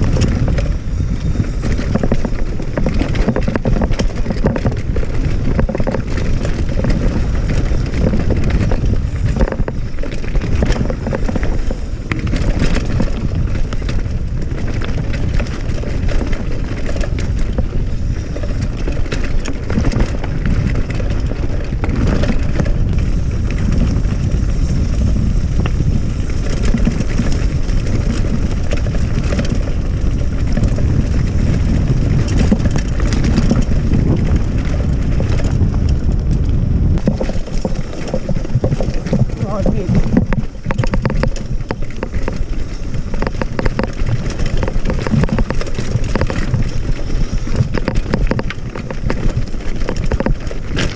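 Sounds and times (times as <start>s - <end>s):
bike clattering over stones: 0.0s - 50.9s
tyres rolling on gravel: 0.0s - 50.9s
wind on microphone: 0.0s - 50.9s.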